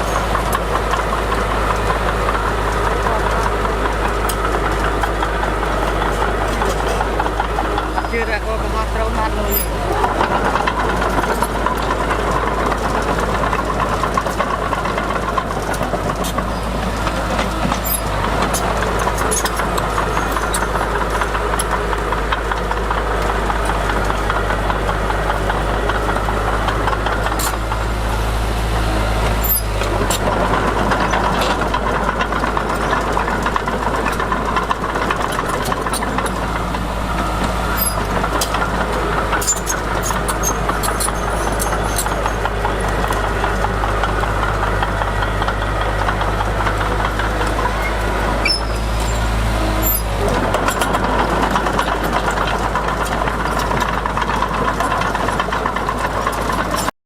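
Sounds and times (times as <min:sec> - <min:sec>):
clicks and clanks: 0:00.0 - 0:56.9
diesel engine running: 0:00.0 - 0:56.9.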